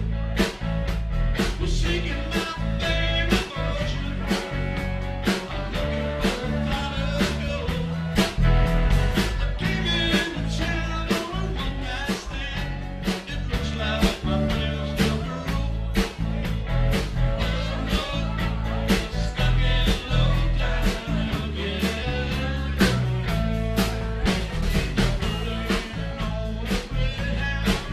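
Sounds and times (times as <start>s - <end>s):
drum kit beating: 0.0s - 27.9s
electric bass: 0.0s - 27.9s
electric guitar: 0.0s - 27.9s.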